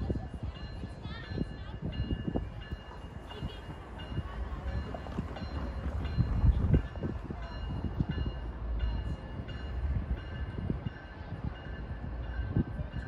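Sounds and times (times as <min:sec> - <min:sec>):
crossing bell ringing: 0:00.0 - 0:13.0
distant diesel locomotives rumbling: 0:00.0 - 0:13.0
wind buffeting microphone: 0:00.0 - 0:13.0.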